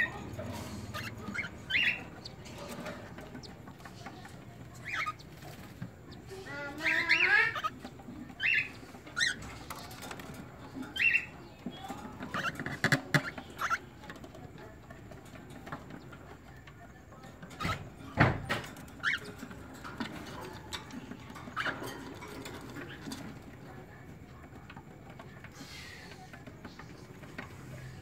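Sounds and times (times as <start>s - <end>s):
parrots chirping and calling: 0.0s - 16.4s, 17.2s - 23.5s.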